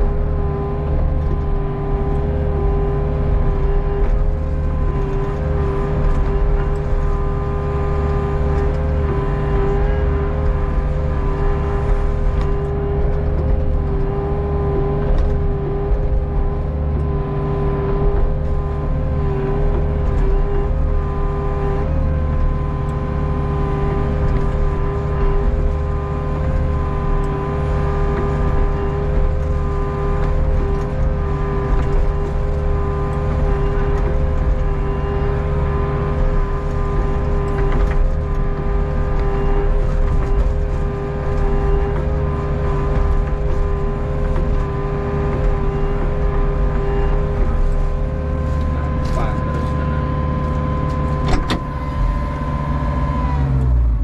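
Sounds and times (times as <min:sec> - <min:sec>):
constant engine whine: 0:00.0 - 0:54.0
excavator diesel engine running: 0:00.0 - 0:54.0.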